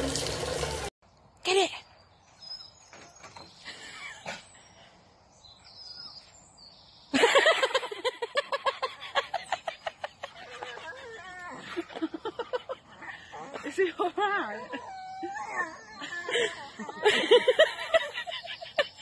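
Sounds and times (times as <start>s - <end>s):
birds chirping faintly: 1.0s - 19.0s.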